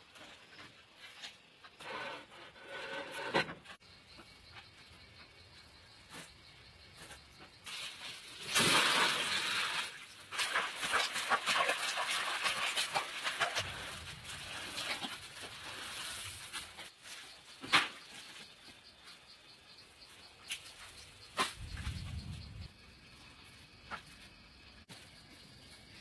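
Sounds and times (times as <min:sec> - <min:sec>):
scratching in dry soil: 0:04.1 - 0:26.0.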